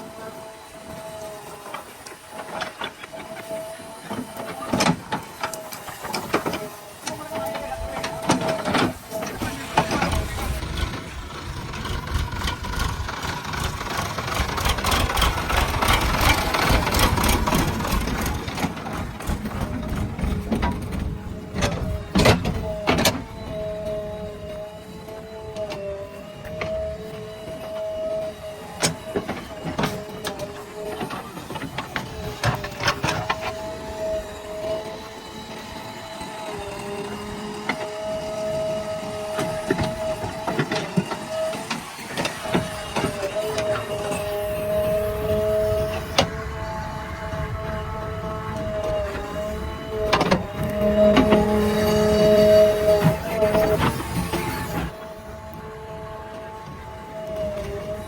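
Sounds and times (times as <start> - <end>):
clattering grinding machinery: 0.0 - 58.0
heavy machinery diesel engine: 0.0 - 58.0.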